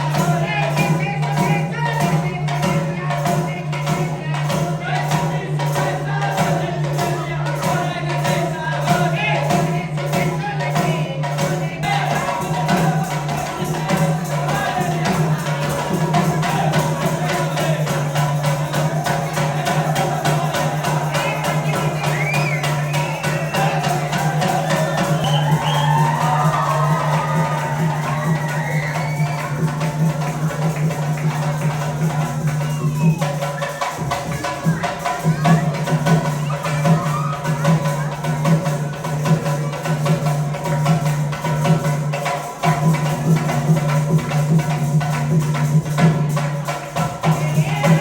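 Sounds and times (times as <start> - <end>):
music with steady beat: 0.0 - 48.0.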